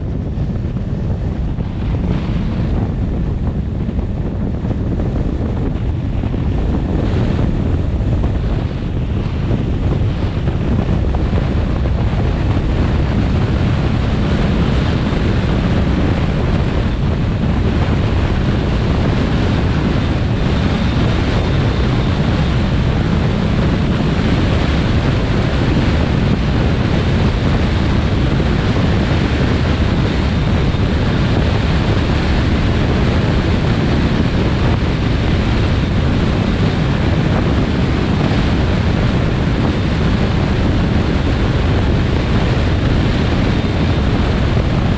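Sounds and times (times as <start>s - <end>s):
vehicle road noise at speed: 0.0s - 44.9s
wind rumble on microphone: 0.0s - 44.9s.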